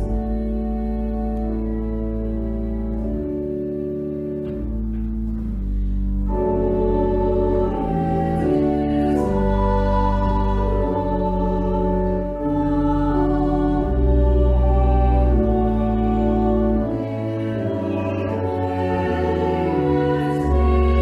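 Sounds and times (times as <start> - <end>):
organ playing chords: 0.0 - 21.0.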